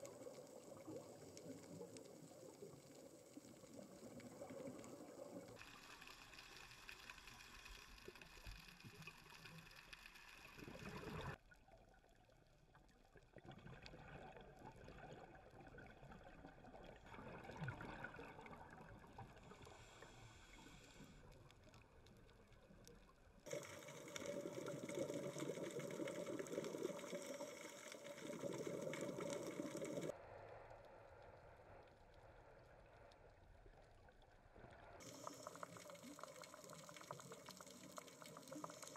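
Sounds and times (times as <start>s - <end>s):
gurgling underwater water noise: 0.0s - 38.9s.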